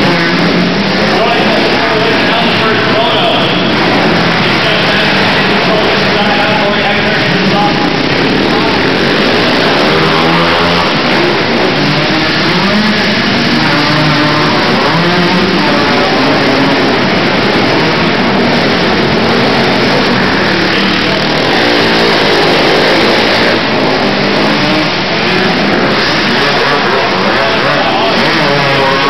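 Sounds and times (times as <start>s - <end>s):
quad engines revving: 0.0s - 29.0s.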